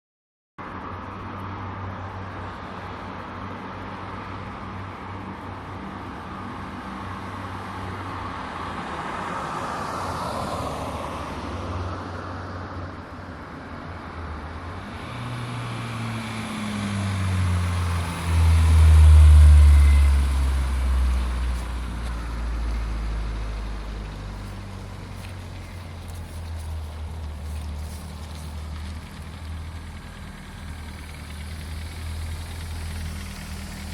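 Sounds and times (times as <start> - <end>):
car engine humming: 2.0 - 33.9.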